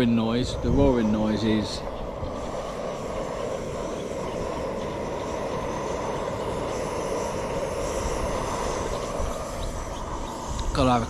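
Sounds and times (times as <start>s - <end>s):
gas stove burner roaring: 0.0s - 11.0s.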